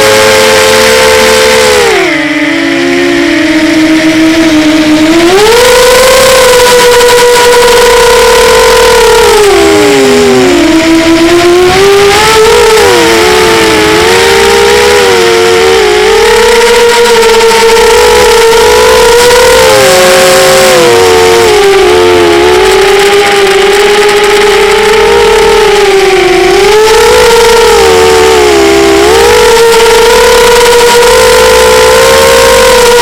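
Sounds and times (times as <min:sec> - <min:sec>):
model airplane engines buzzing: 0:00.0 - 0:33.0.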